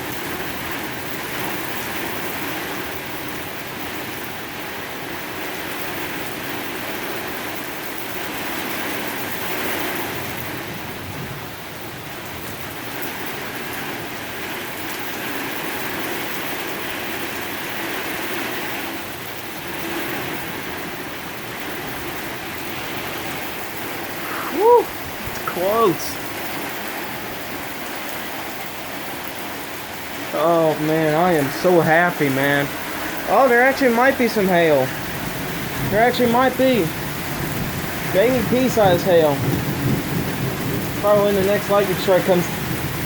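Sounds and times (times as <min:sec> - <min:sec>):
heavy rain pouring: 0:00.0 - 0:43.0.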